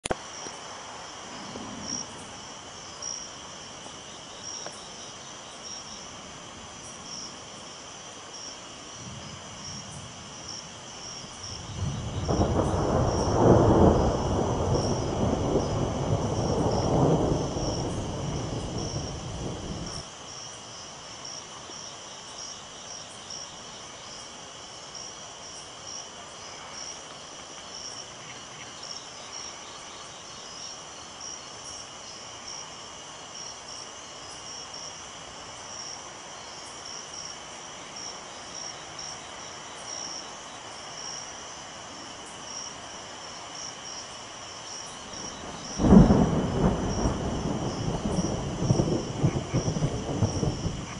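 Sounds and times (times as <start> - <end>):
insects trilling: 0.1 - 50.9.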